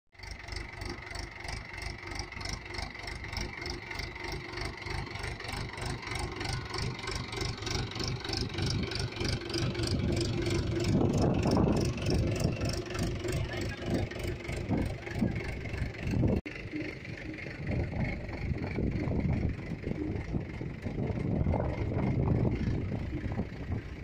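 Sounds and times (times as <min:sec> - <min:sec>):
tractor diesel engine under load: 0:00.1 - 0:24.0.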